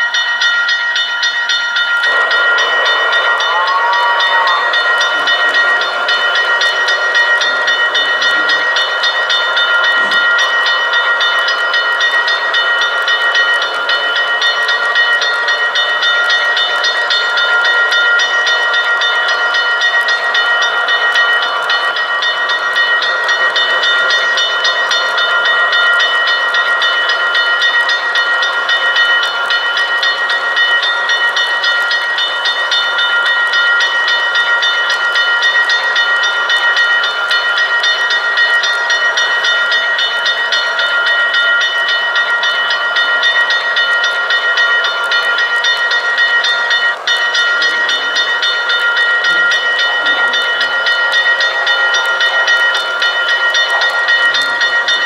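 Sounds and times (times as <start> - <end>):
high locomotive sound tones: 0.0 - 55.0.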